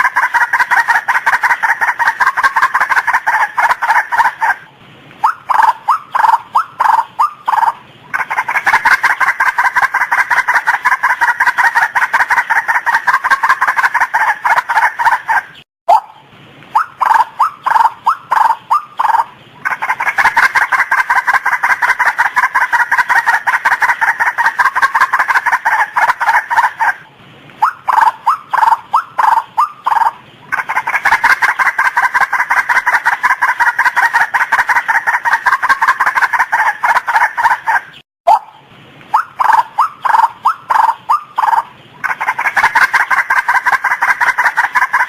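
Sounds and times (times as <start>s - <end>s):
waterhen calling: 0.0s - 45.0s.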